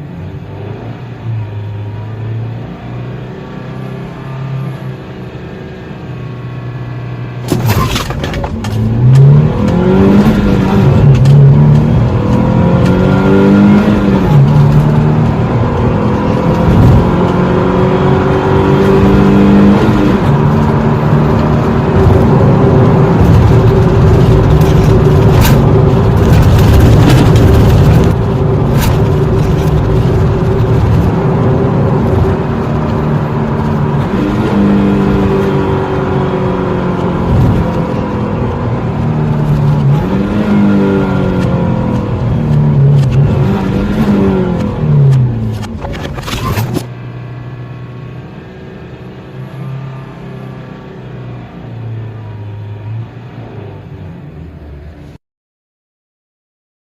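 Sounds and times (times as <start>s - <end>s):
car engine revving and accelerating: 0.0s - 55.2s.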